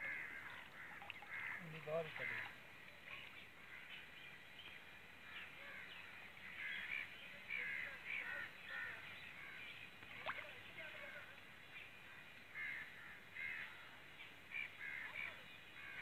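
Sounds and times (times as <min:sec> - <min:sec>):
faint birds calling: 0:00.0 - 0:16.0.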